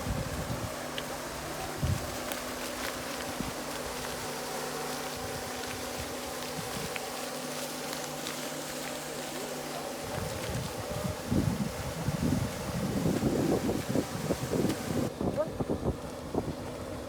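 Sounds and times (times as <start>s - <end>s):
steady buzzing drone: 0.0s - 17.0s.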